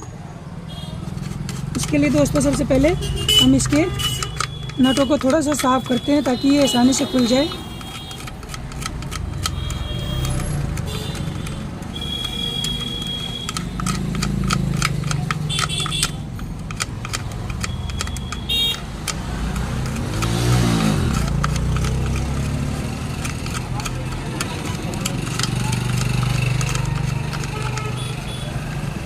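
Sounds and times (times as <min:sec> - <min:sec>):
vehicle engine: 0:00.0 - 0:29.0
screwdriver scraping metal nuts: 0:01.0 - 0:28.4.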